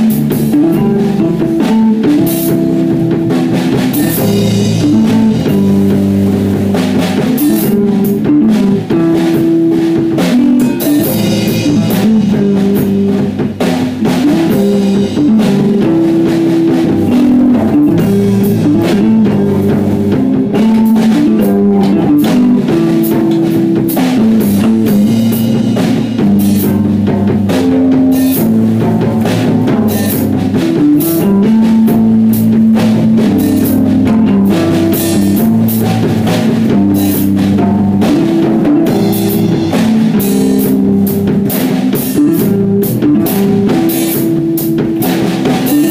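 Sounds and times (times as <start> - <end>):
drum kit with cymbal crashes: 0.0 - 45.9
electric bass: 0.0 - 45.9
electric guitar holding long notes: 0.0 - 45.9.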